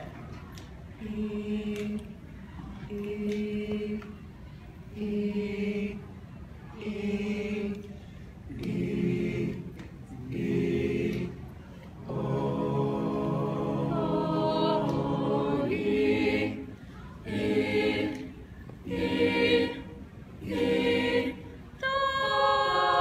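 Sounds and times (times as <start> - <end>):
vocal group singing held chords: 1.0 - 2.3, 4.9 - 6.1, 6.8 - 23.0.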